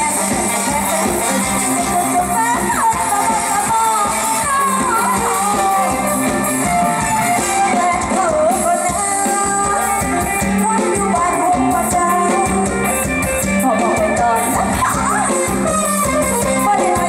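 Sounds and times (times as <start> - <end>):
band playing over loudspeakers: 0.0 - 17.0
steady drum beat: 0.0 - 17.0
woman singing into microphone: 0.0 - 17.0.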